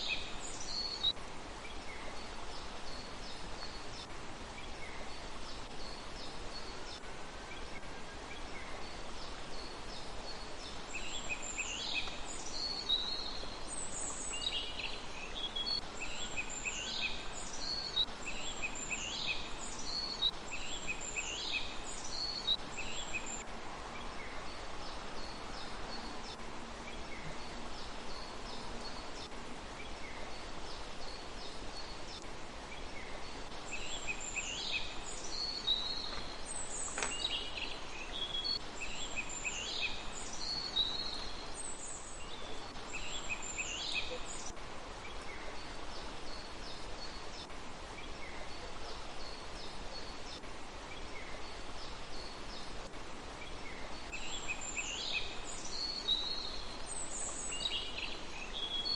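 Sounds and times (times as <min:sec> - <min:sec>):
small birds chirping: 0:00.0 - 0:58.9
steady background hiss: 0:00.0 - 0:58.9.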